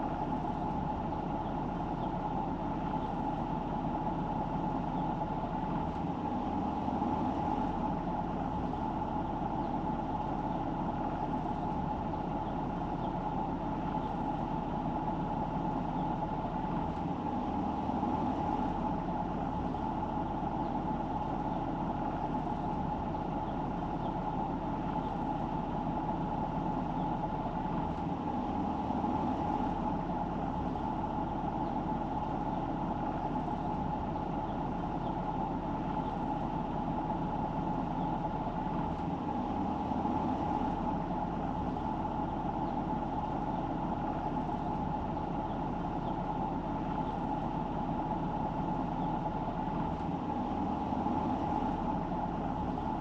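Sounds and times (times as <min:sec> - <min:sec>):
car engine and tyres droning: 0:00.0 - 0:53.0.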